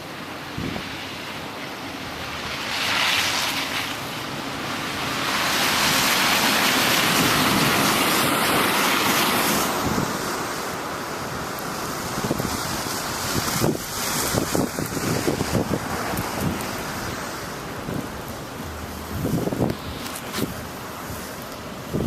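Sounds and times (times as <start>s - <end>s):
wind gusting over microphone: 0.0s - 22.0s.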